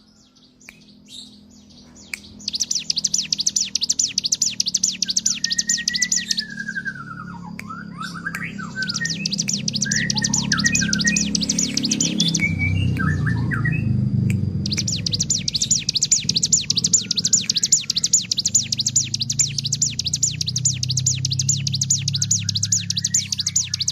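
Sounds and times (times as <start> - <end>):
bird singing high trill: 0.0 - 23.9
bird twittering: 0.0 - 23.9
steady low hum: 0.0 - 23.9.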